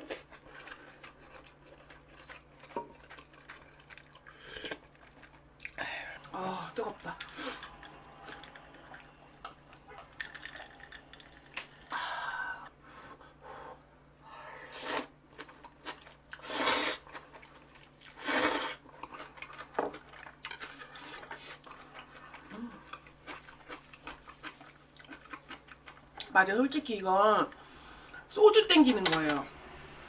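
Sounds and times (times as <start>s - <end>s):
person chewing: 0.0s - 12.0s, 14.2s - 26.3s.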